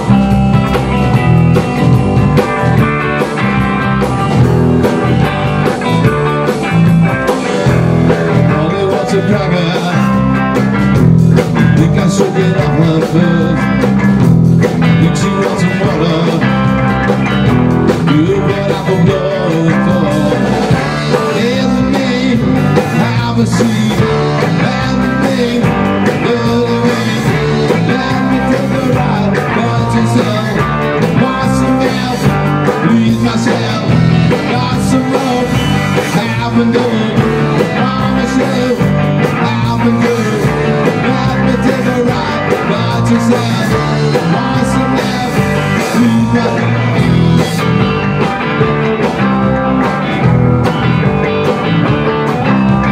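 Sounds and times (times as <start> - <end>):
distorted electric guitars: 0.0 - 52.9
drum kit beat: 0.0 - 52.9
electric bass: 0.0 - 52.9.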